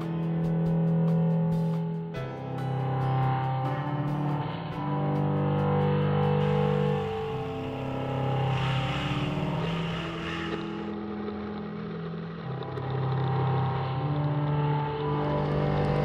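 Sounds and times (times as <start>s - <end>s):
motorcycle engine revving: 2.8s - 16.0s.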